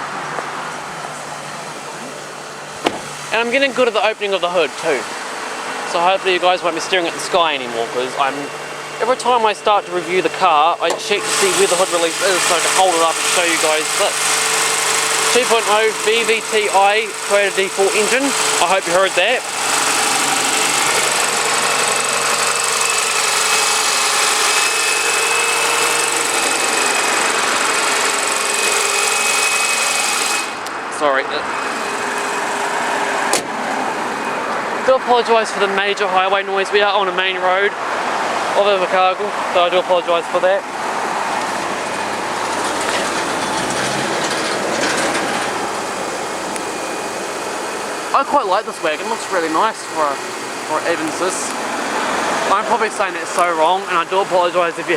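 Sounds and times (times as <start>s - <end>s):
heavy traffic roar: 0.0s - 29.6s, 30.2s - 54.9s
car engine idling: 0.0s - 36.4s, 38.7s - 54.9s.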